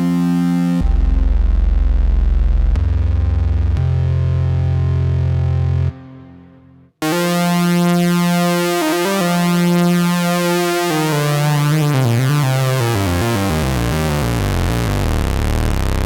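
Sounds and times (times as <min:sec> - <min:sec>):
analog synthesizer notes: 0:00.0 - 0:06.4, 0:07.0 - 0:16.0.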